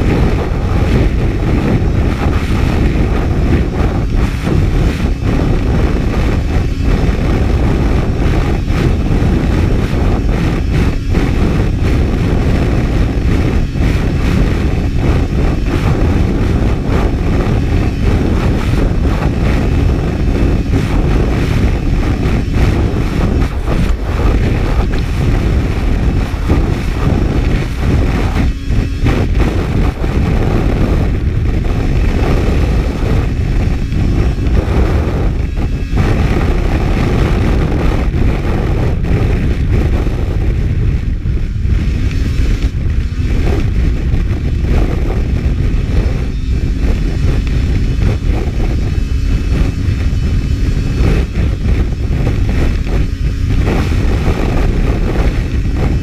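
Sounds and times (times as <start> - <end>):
snowmobile engine: 0.0 - 56.0
wind noise on microphone: 0.0 - 56.0.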